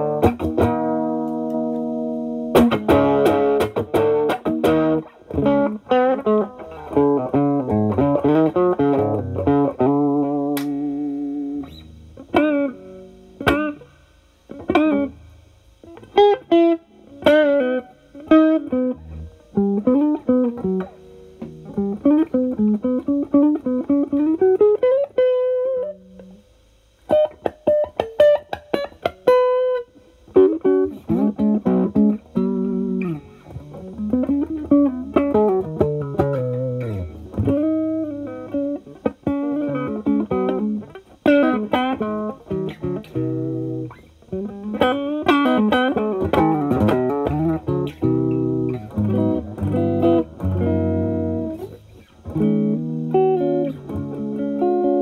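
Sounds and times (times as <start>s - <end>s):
overdriven electric guitar playing: 0.0s - 55.0s.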